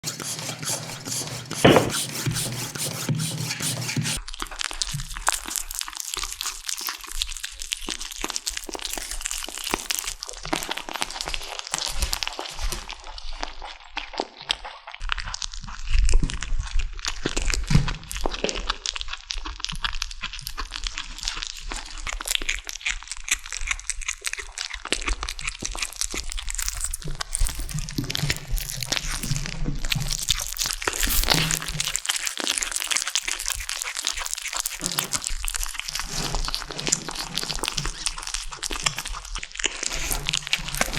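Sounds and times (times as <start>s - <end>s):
kittens crunching and chewing: 0.1s - 12.8s, 13.4s - 40.9s.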